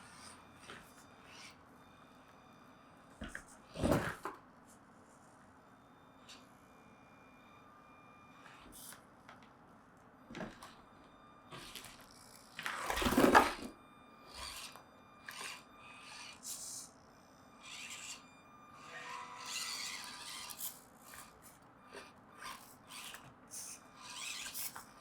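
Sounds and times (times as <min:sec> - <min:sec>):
small motor and drivetrain whirring: 0:00.0 - 0:04.4, 0:05.0 - 0:25.0.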